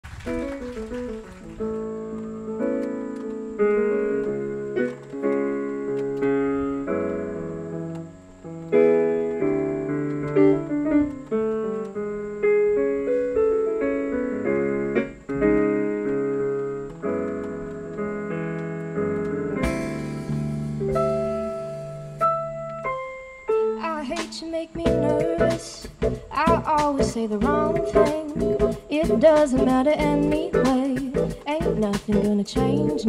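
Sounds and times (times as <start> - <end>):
piano-toned keyboard chords: 0.3 - 33.0.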